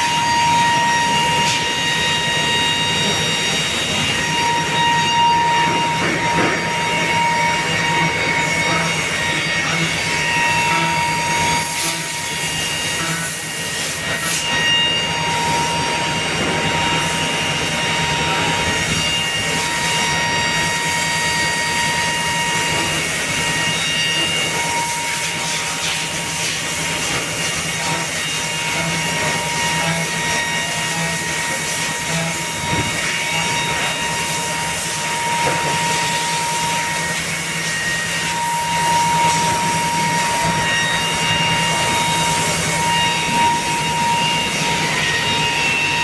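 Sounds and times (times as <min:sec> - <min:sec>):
router spindles whining: 0:00.0 - 0:46.0.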